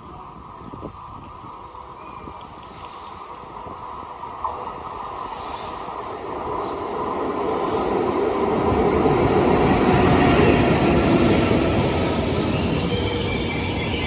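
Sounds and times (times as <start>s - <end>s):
train wheels rumbling on rails: 0.1s - 14.0s.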